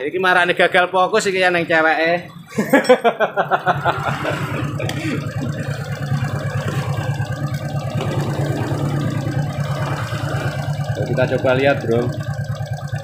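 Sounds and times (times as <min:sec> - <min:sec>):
motorcycle engine idling: 0:01.6 - 0:13.0.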